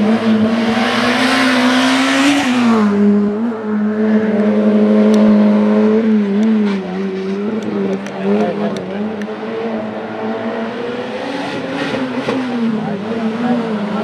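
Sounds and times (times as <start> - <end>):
race car engine at high revs: 0.0 - 14.0.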